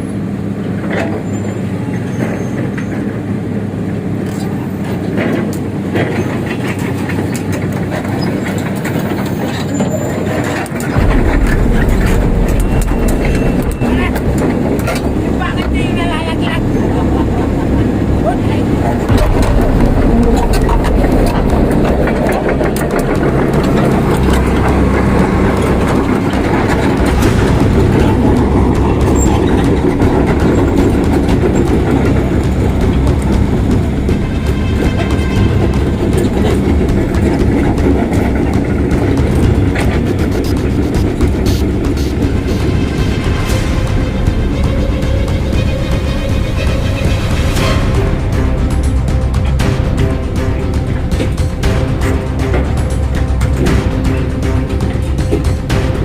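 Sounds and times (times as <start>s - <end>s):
diesel engine rattling: 0.0s - 56.0s
deep rumble: 10.6s - 56.0s.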